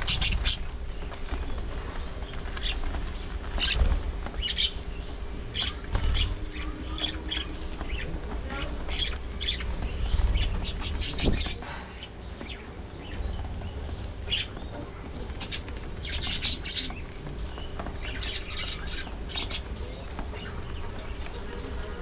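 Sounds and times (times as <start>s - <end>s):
budgerigars chirping and chattering: 0.0s - 22.0s.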